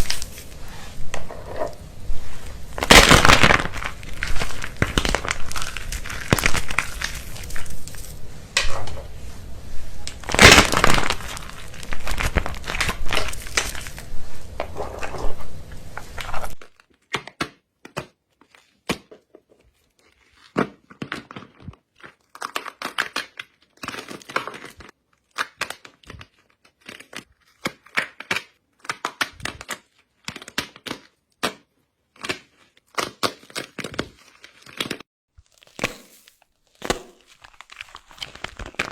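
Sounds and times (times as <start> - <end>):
soap crunching and crackling: 0.0 - 8.8, 10.0 - 38.9.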